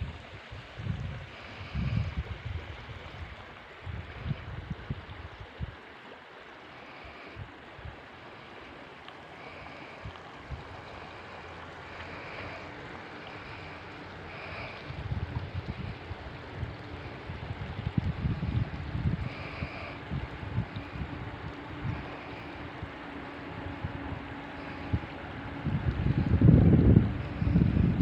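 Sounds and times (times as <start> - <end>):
wind buffeting microphone: 0.0 - 5.9, 9.9 - 28.0
mountain stream flowing: 0.0 - 28.0.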